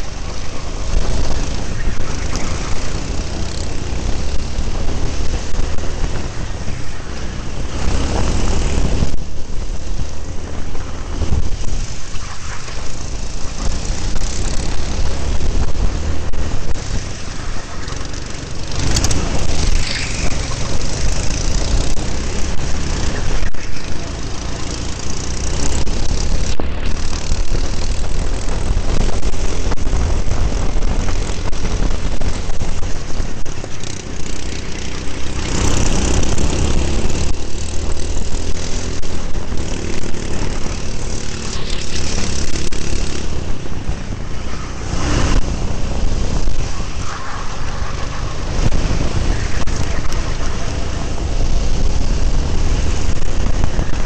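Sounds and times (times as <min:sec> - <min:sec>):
go-kart engine racing: 0:00.0 - 0:54.0
wind noise on microphone: 0:00.0 - 0:54.0.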